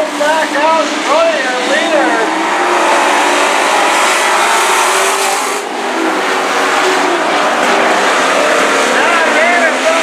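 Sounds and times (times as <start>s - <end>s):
racing truck engines droning: 0.0s - 10.0s.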